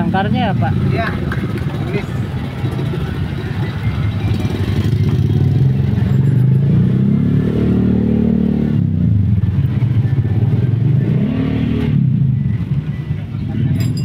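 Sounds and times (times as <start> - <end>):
vehicle engine revving: 2.3 - 13.8.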